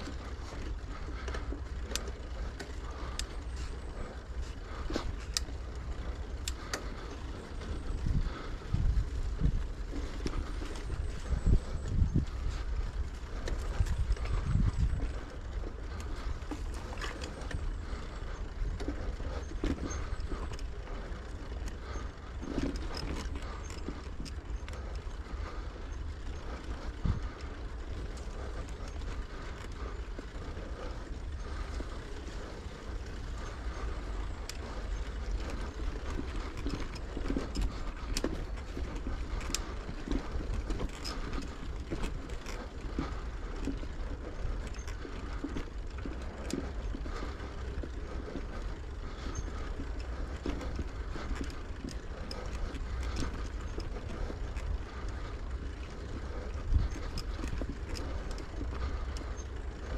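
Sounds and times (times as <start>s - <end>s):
bicycle rolling noise: 0.0s - 59.9s
bike rattles and clicks: 0.0s - 59.9s
wind rumbling on microphone: 0.0s - 59.9s.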